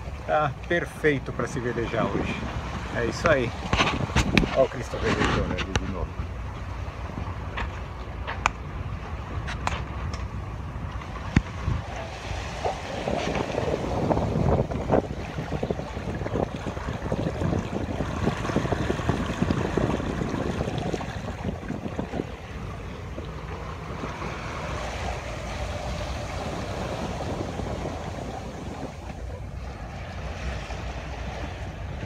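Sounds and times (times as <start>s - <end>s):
water rushing along boat hull: 0.0s - 32.0s
wind buffeting microphone: 0.0s - 32.0s.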